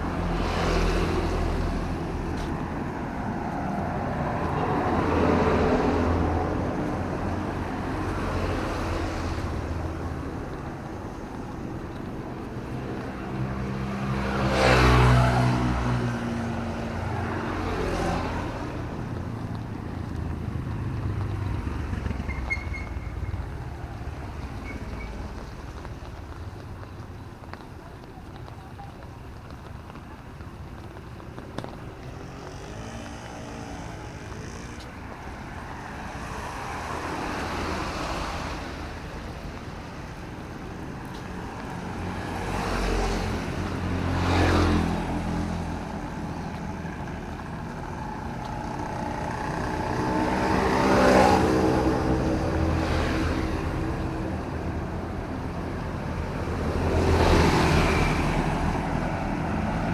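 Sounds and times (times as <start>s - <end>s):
background traffic noise: 0.0s - 59.9s
vehicles passing on wet road: 0.0s - 59.9s.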